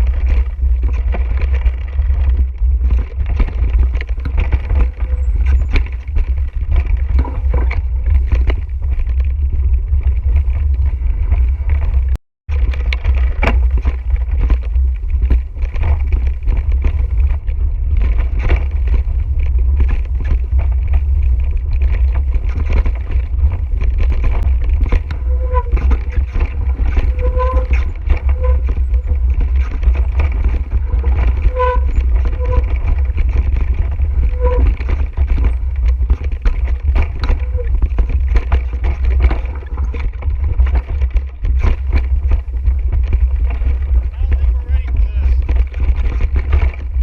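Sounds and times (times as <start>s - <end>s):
mountain bike rattling: 0.0s - 47.0s
wind rumble on microphone: 0.0s - 47.0s.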